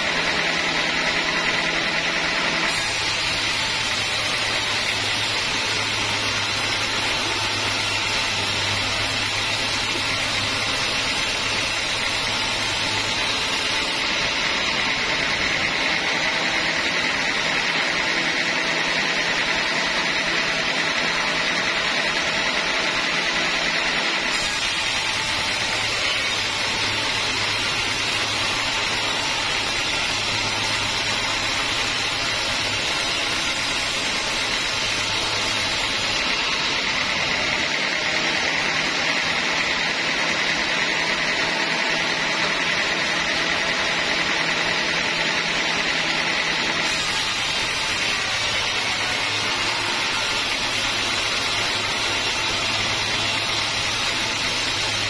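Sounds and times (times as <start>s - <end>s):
band saw hissing through log: 0.0s - 55.0s.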